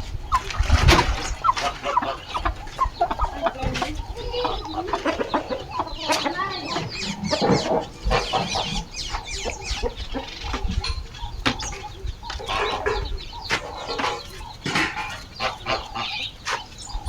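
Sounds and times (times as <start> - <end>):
chickens clucking and squawking: 0.0 - 17.0.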